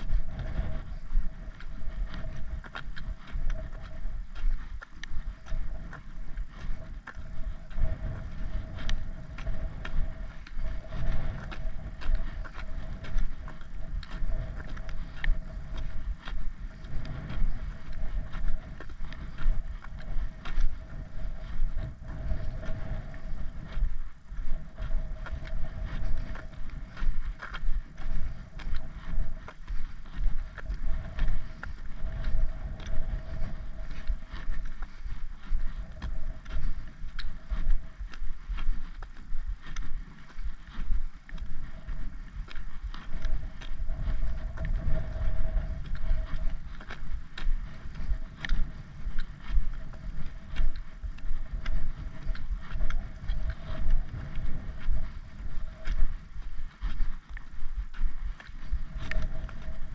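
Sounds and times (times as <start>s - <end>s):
footsteps on tarmac: 0.0s - 59.9s
wind rumble on microphone: 0.0s - 59.9s.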